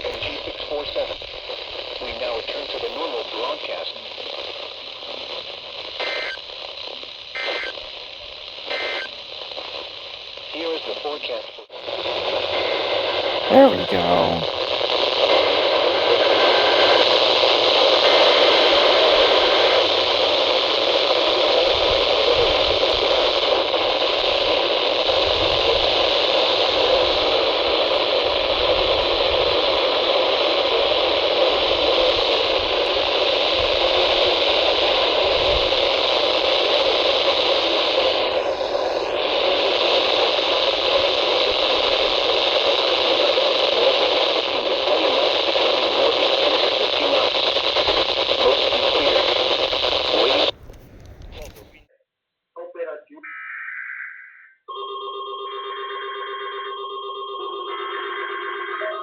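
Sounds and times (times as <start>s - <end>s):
radio static hiss: 0.0s - 51.9s.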